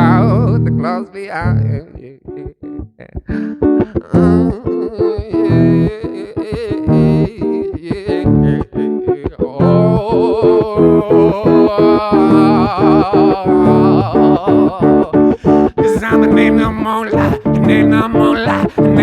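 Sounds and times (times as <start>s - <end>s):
person singing: 0.0s - 19.0s
strummed guitar chords: 0.0s - 19.0s.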